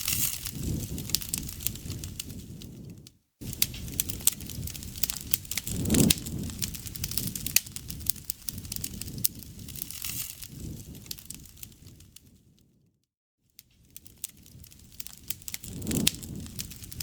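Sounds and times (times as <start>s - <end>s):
campfire crackling and popping: 0.0s - 12.6s, 13.6s - 17.0s.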